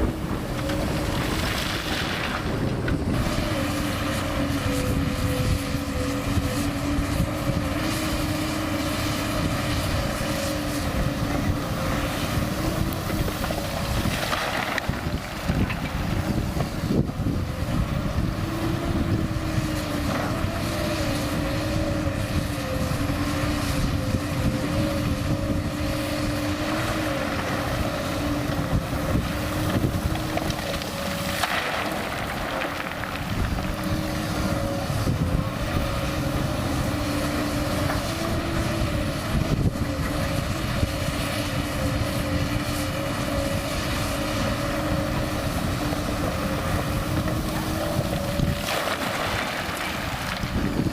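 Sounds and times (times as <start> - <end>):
wind noise on microphone: 0.0 - 31.4, 33.2 - 49.3, 50.1 - 50.9
excavator diesel engine running: 0.0 - 50.9.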